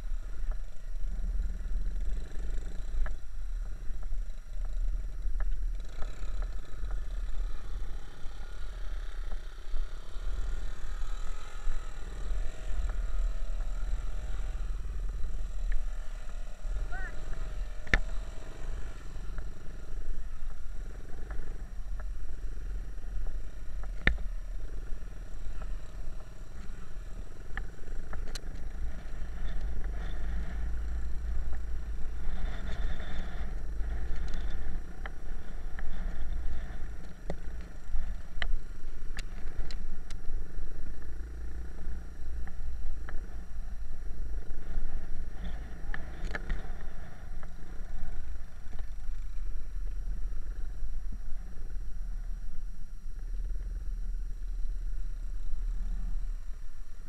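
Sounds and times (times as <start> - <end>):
knocks and rattles from bikes: 0.0 - 50.6
trail motorbikes running: 0.0 - 57.0.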